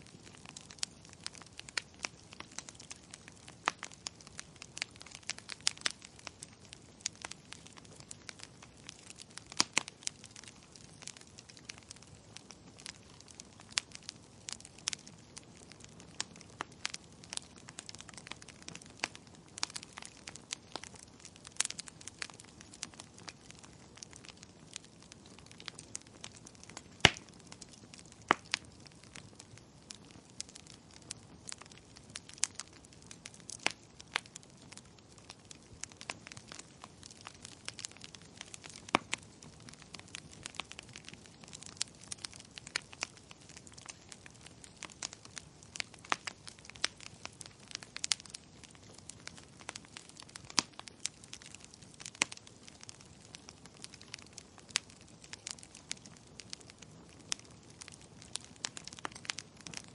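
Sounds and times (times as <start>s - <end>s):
firewood crackling: 0.0s - 59.9s.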